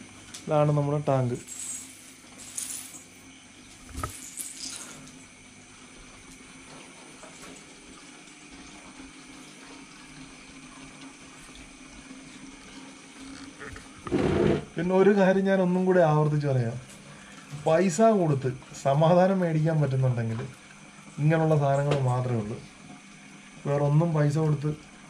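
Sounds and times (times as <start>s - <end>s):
aquarium water trickling: 3.2s - 14.1s, 14.7s - 25.0s.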